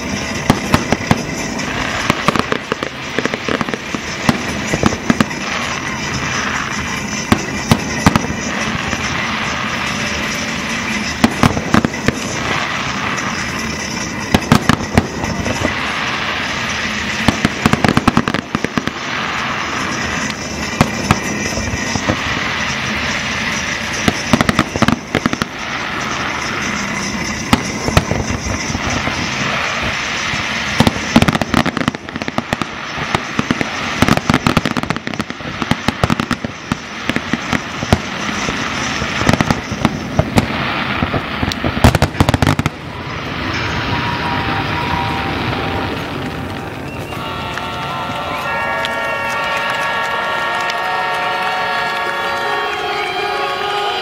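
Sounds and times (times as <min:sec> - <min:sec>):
crackling hiss: 0:00.0 - 0:54.0
firework shells bursting: 0:00.0 - 0:54.0.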